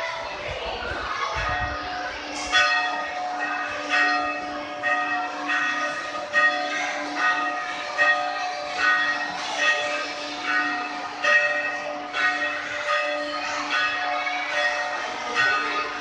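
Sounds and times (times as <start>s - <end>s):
church bells pealing: 1.1s - 16.0s.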